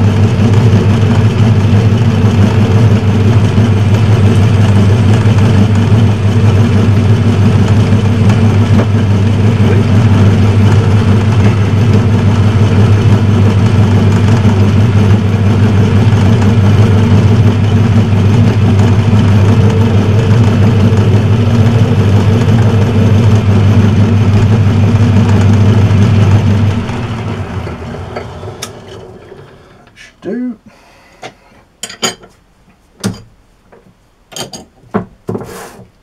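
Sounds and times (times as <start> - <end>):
metal lathe motor hum: 0.0 - 30.0.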